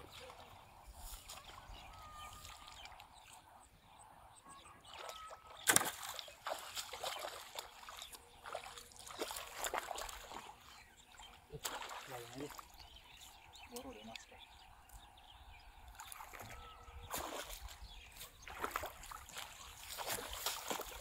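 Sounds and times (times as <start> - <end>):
muddy water splashing: 0.0 - 3.6, 4.5 - 14.4, 15.7 - 21.0.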